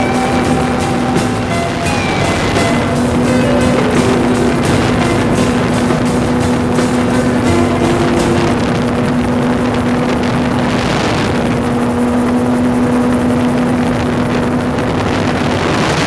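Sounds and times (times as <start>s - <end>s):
aircraft engine drone: 0.0s - 16.0s
rush of air noise: 0.0s - 16.0s.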